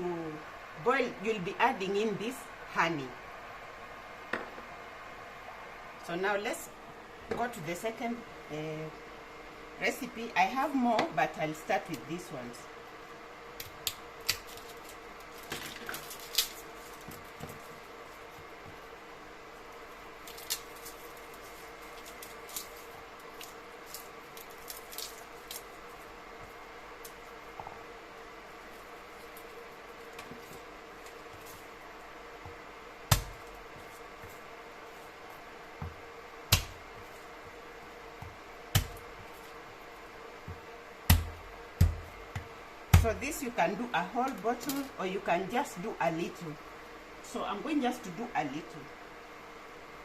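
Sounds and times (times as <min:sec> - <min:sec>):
low room hum: 0:00.0 - 0:50.0.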